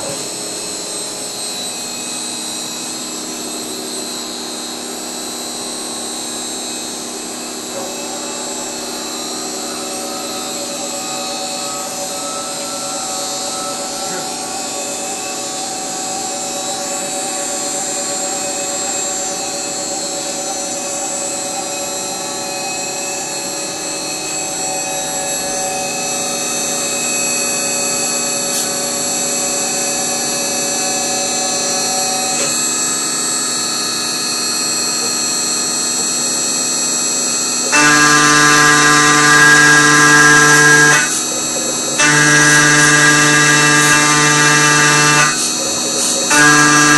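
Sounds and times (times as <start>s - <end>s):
cnc router spindle whine: 0.0s - 46.9s
end mill cutting metal: 0.0s - 46.9s.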